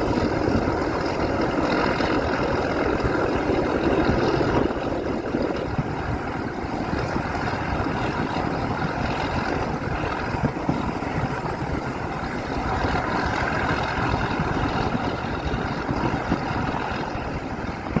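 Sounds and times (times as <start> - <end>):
diesel locomotive engine running: 0.0 - 18.0.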